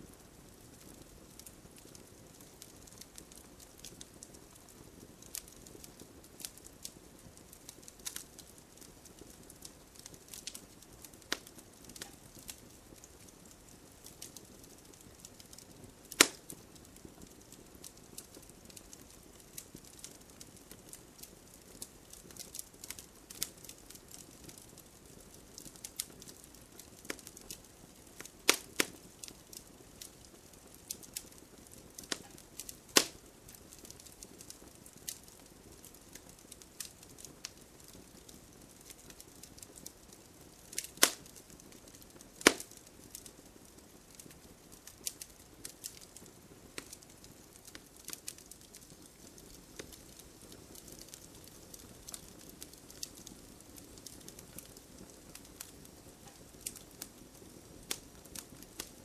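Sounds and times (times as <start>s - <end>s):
campfire crackling and popping: 0.0s - 59.0s
low hiss of burning: 0.0s - 59.0s.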